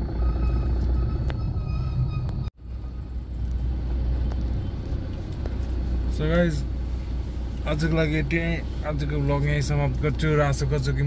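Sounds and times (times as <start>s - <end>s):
car driving on road rumble: 0.0s - 11.0s.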